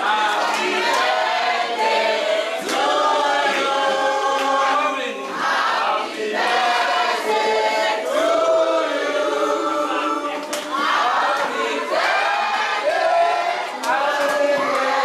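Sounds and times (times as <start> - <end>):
congregation singing: 0.0 - 15.0.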